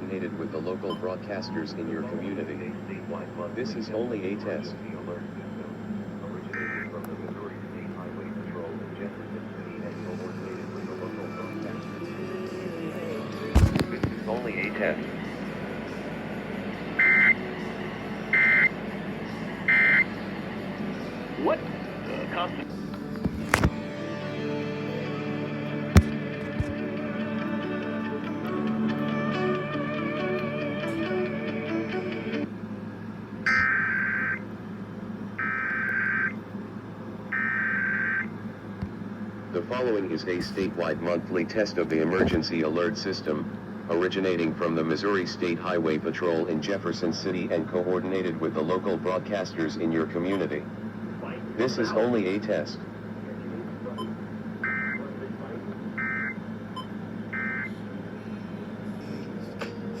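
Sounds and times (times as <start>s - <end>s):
steady low hum: 0.0s - 29.0s, 30.8s - 60.0s.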